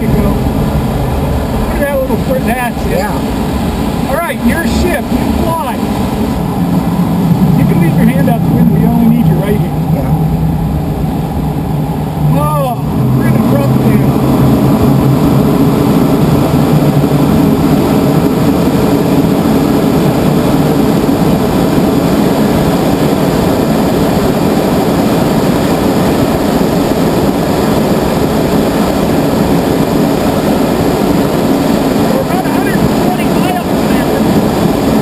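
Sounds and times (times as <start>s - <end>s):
wind rushing through cockpit: 0.0s - 35.0s.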